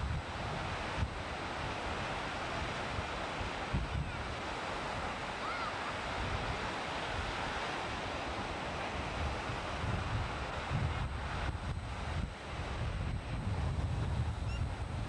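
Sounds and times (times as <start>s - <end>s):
wind buffeting microphone: 0.0s - 5.2s, 6.0s - 15.0s
surf breaking on beach: 0.0s - 15.0s.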